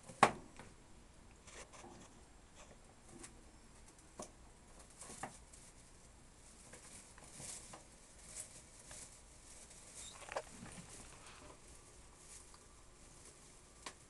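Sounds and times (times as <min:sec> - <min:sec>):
rat rustling in straw nest: 0:01.4 - 0:14.0.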